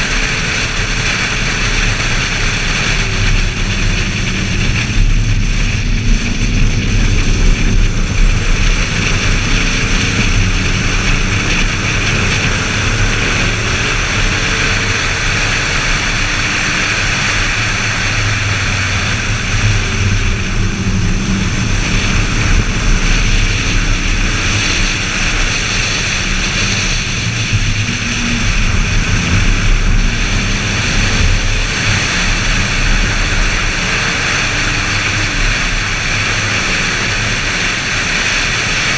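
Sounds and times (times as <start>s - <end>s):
car engine revving: 0.0s - 38.9s
wind and road rush: 0.0s - 38.9s.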